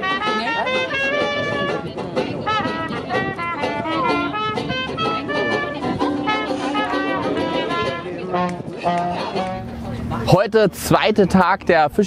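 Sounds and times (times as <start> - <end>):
brass band playing: 0.0 - 9.8.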